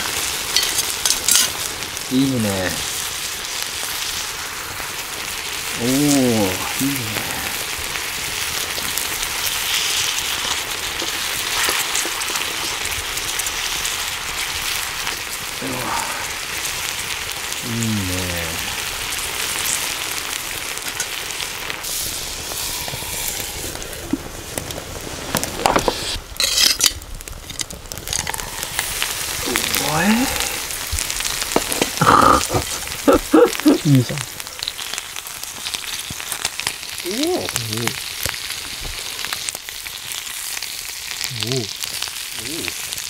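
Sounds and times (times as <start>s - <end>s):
chicken sizzling in a skillet: 0.0s - 43.0s
crackling and popping: 0.0s - 43.0s.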